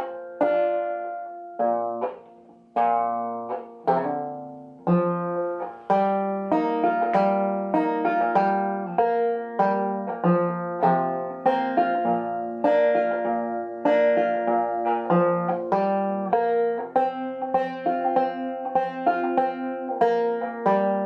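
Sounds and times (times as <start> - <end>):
banjo picked slowly: 0.0 - 21.0.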